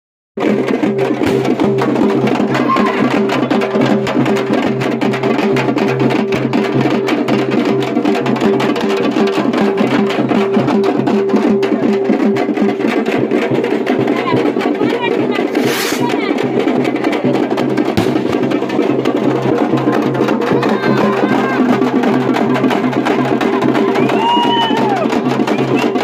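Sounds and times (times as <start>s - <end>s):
fast dense drum strokes: 0.4s - 26.0s.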